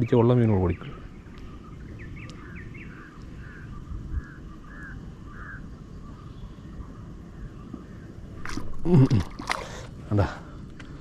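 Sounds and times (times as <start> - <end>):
rising bird chirps: 0.0 - 8.9.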